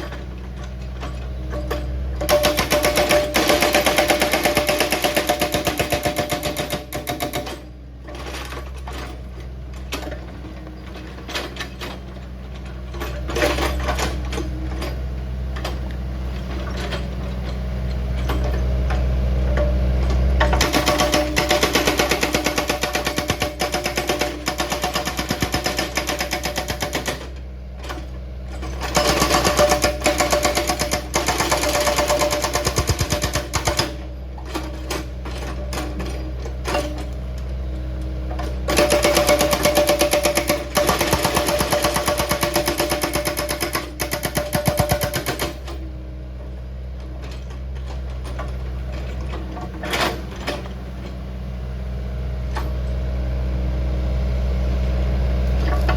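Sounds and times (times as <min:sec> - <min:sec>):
hydraulic rock breaker hammering: 0:00.0 - 0:51.2
diesel engine running: 0:00.0 - 0:55.9.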